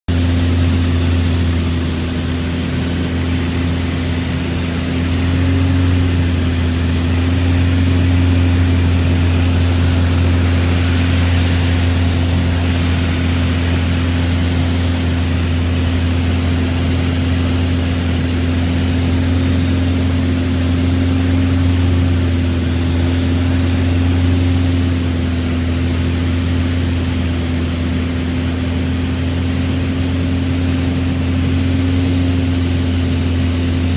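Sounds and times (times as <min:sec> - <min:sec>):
airplane engine droning: 0:00.1 - 0:33.9
rushing airflow: 0:00.2 - 0:28.5.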